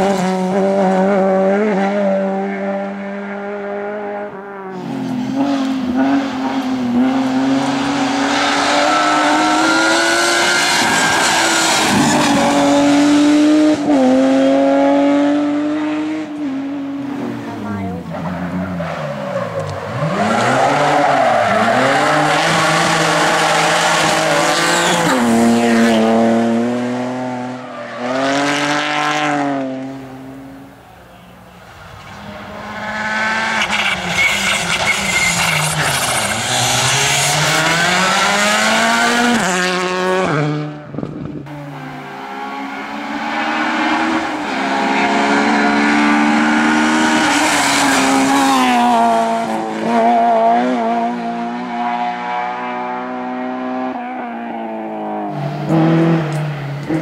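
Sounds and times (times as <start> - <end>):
rally car engines at high revs: 0.0 - 30.8, 31.9 - 57.0.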